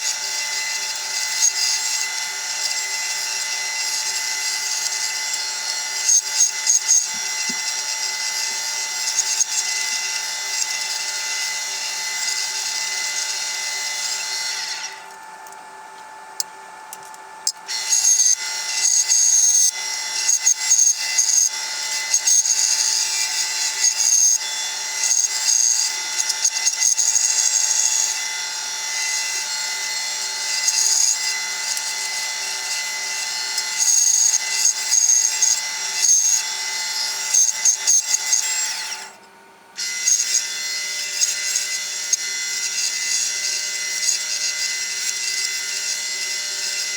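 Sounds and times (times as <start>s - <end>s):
power tool working wood: 0.0s - 46.9s.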